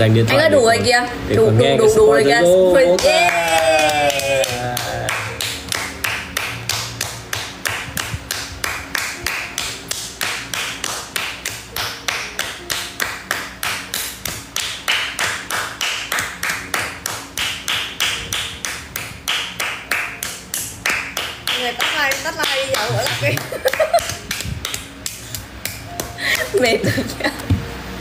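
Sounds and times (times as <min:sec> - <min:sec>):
hands clapping: 0:02.9 - 0:26.6.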